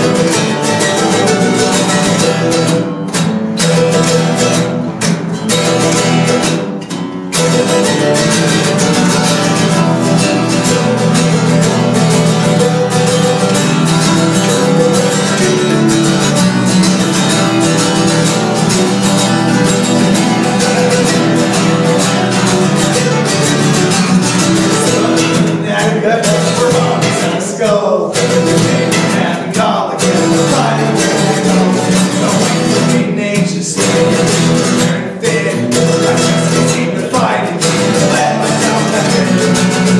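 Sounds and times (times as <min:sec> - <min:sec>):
acoustic string trio playing: 0:00.0 - 0:39.9.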